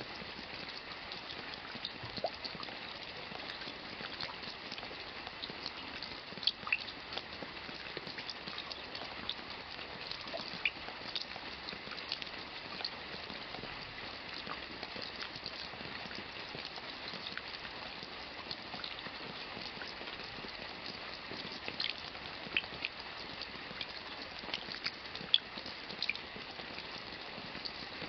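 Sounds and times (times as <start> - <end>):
raindrops ticking and splashing: 0.0 - 28.0
steady rain: 0.0 - 28.0.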